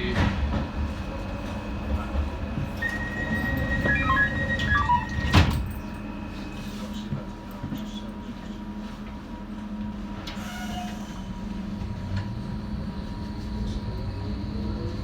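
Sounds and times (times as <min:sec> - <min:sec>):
train electric hum: 0:00.0 - 0:15.0.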